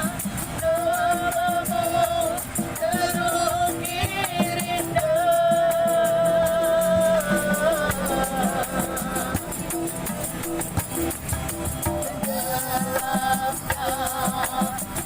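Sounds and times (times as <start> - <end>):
person singing with vibrato: 0.0 - 15.0
quick rattle rhythm: 0.0 - 15.0.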